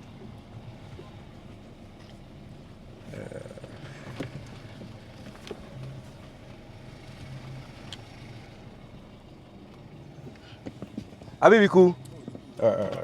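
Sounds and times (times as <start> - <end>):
car running low hum: 0.0 - 13.0.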